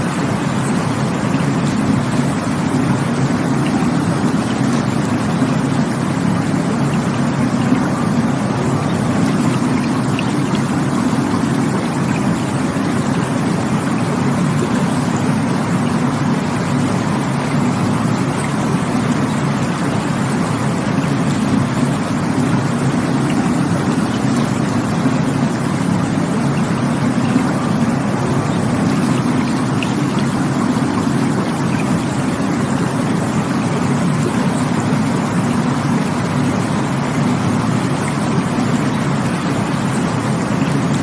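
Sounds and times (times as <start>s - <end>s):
rushing water: 0.0s - 41.0s.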